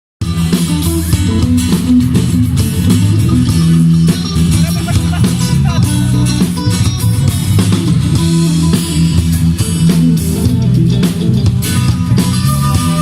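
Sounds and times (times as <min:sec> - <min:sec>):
band playing guitars bass drums: 0:00.2 - 0:13.0.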